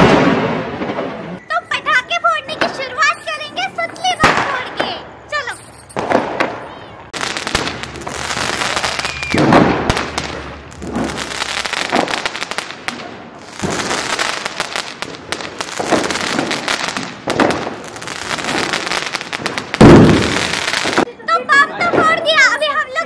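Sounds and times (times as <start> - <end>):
firecrackers banging and crackling: 0.0 - 21.2.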